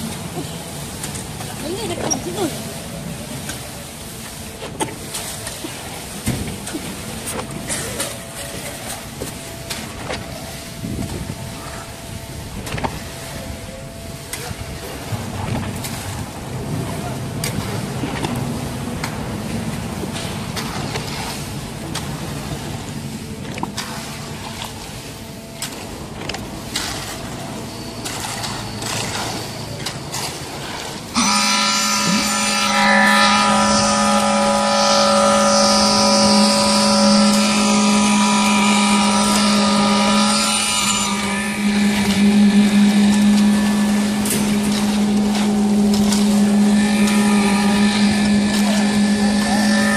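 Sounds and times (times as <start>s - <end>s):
machinery engine rumble: 0.0s - 49.9s
steady engine hum: 0.0s - 49.9s.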